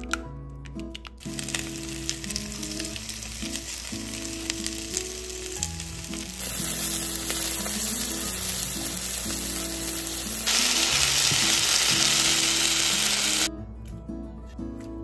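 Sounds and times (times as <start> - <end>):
soft background music: 0.0 - 15.0
chicken frying in oil: 1.2 - 13.5.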